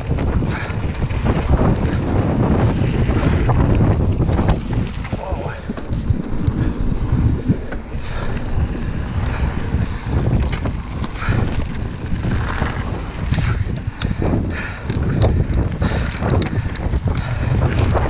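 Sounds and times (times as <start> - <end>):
bike clicks and knocks: 0.0 - 18.0
bike tyre noise on dirt: 0.0 - 18.0
wind buffeting microphone: 0.0 - 18.0.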